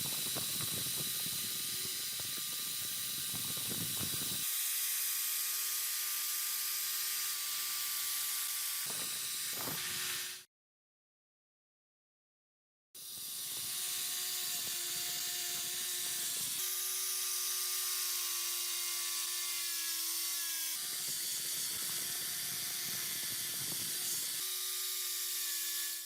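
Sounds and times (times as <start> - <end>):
power tool motor whining: 0.0 - 10.5, 13.0 - 26.0.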